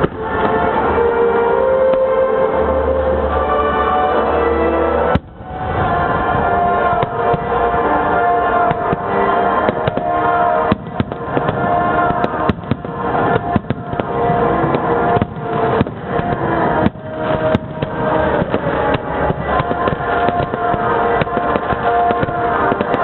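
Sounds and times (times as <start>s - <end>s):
fireworks bursting: 0.0s - 2.4s, 4.9s - 23.0s
loud music with sustained notes: 0.0s - 23.0s.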